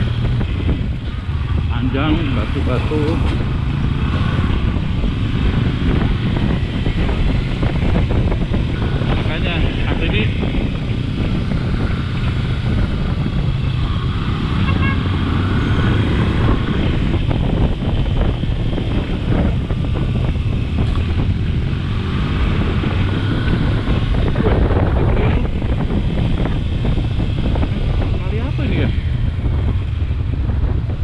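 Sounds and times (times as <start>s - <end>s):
motorcycle engine running: 0.0s - 31.0s
wind on microphone: 0.0s - 31.0s.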